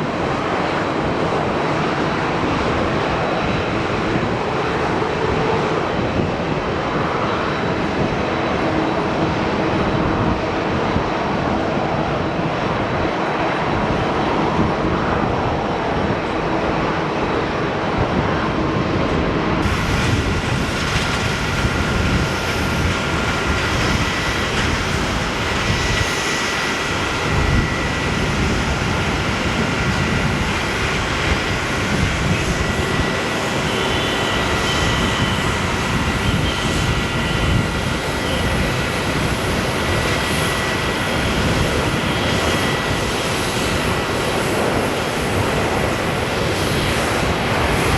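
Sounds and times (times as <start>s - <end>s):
faint engine whines: 0.0s - 47.9s
jet engines rushing: 0.0s - 47.9s.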